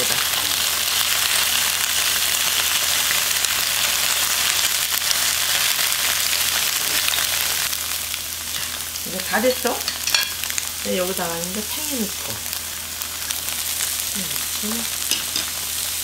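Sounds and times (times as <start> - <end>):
tofu sizzling in oil: 0.0 - 16.0.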